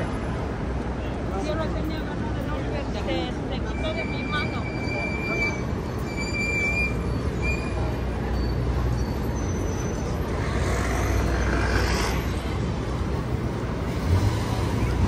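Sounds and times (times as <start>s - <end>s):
traffic engine rumble: 0.0s - 15.0s.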